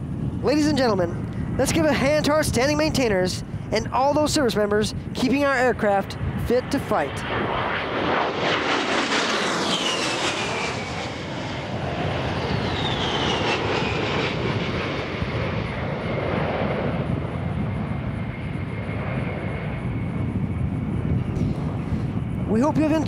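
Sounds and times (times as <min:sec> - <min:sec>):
jet engines flying by: 0:00.0 - 0:23.0.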